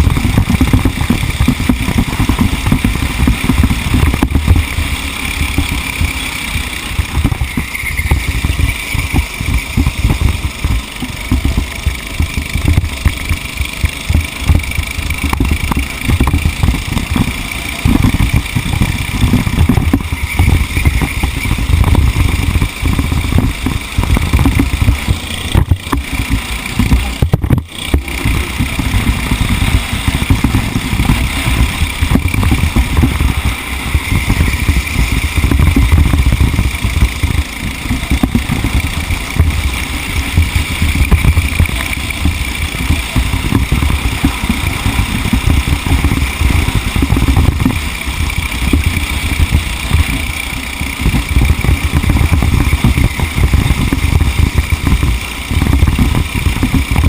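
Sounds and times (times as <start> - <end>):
vehicle engine low rumble: 0.0 - 57.0.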